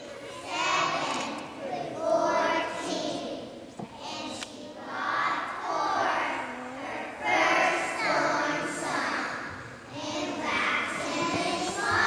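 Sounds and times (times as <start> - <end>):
children's choir singing: 0.0 - 12.0.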